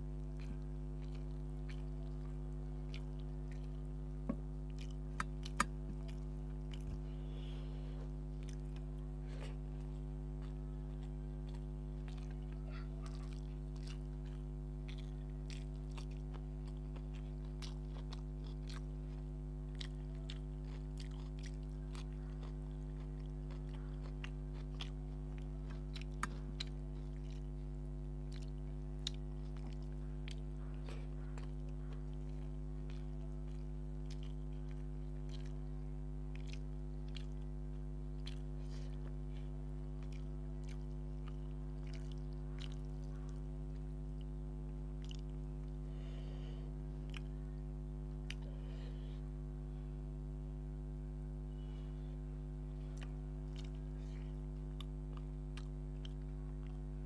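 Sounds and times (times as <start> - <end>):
person chewing food: 0.0 - 57.0
steady low hum: 0.0 - 57.0.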